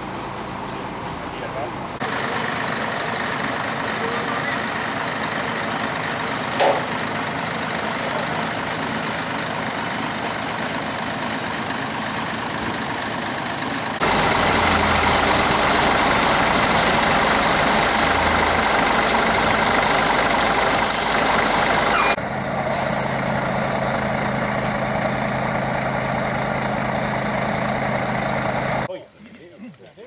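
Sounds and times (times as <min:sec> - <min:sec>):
close truck engine hum: 0:00.0 - 0:28.9
truck engines idling: 0:00.0 - 0:28.9.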